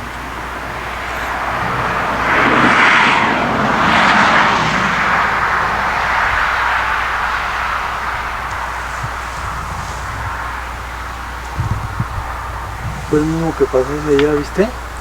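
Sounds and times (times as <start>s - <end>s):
car passing close by: 0.0s - 15.0s.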